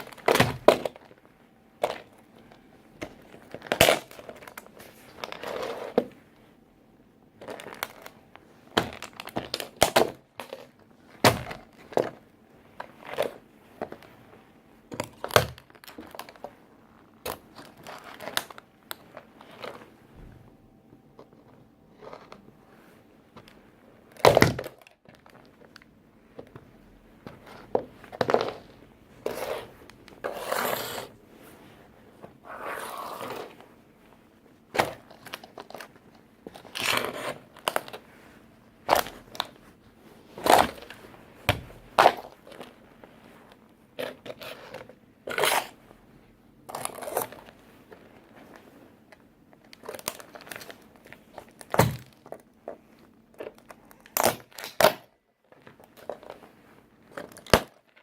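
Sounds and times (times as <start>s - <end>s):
scraping and crinkling: 0.0s - 6.6s, 7.3s - 58.0s.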